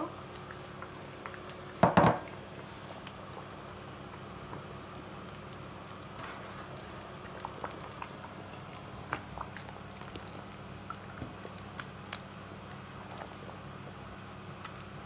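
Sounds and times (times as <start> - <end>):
thick soup bubbling and popping: 0.0 - 15.0.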